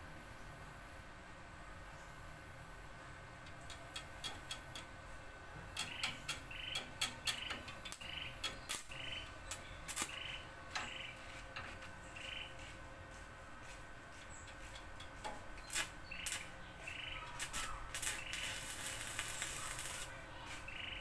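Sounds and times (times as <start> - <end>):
arc welder crackling: 3.3 - 21.0.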